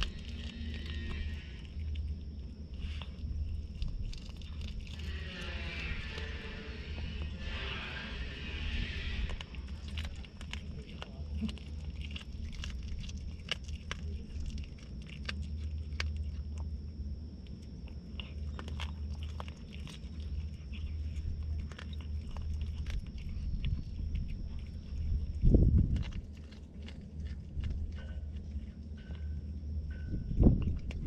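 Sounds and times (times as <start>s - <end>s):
cat crunching raw fish: 0.0s - 31.0s
steady low rumble: 0.0s - 31.0s.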